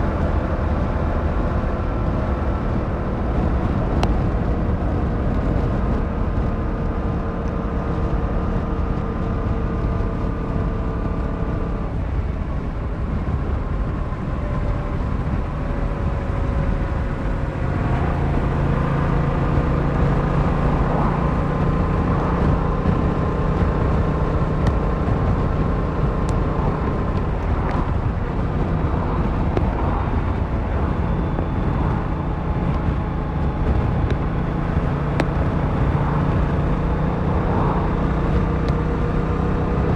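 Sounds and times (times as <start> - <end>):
motorcycle engine cruising: 0.0 - 39.9
road noise: 0.0 - 39.9
wind rushing: 0.0 - 39.9.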